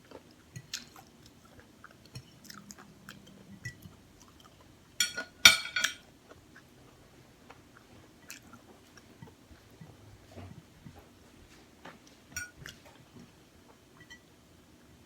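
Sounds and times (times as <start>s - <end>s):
person chewing with wet clicks: 0.0s - 5.0s, 6.0s - 11.1s, 12.0s - 14.2s.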